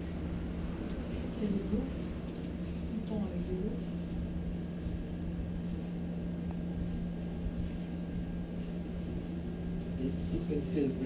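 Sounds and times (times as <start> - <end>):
air conditioner hum: 0.0 - 11.0.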